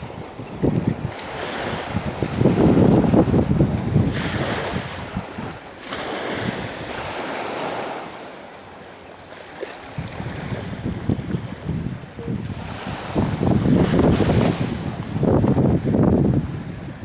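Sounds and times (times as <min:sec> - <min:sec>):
wind buffeting microphone: 0:00.0 - 0:07.3, 0:09.8 - 0:17.0
sea waves washing in: 0:00.8 - 0:09.0, 0:09.6 - 0:17.0.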